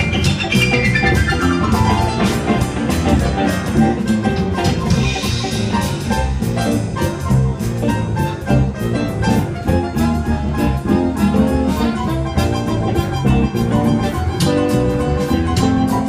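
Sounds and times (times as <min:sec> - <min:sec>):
bass guitar: 0:00.0 - 0:16.0
drum kit beat: 0:00.0 - 0:16.0
electric guitar: 0:00.0 - 0:16.0
grand piano: 0:00.0 - 0:16.0.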